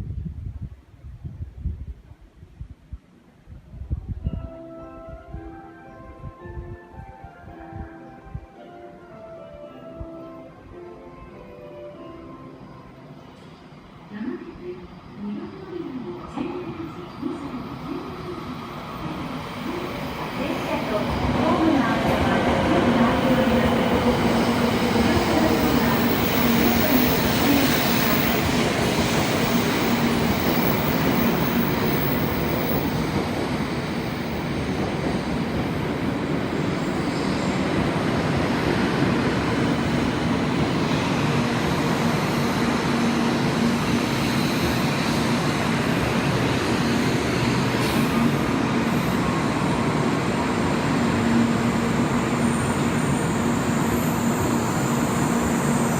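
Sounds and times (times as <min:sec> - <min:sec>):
train running noise: 0:06.4 - 0:55.9.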